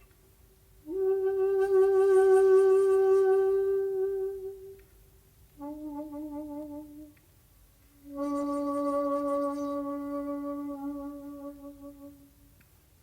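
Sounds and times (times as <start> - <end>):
shakuhachi playing held notes: 0.8 - 7.3, 8.0 - 12.5.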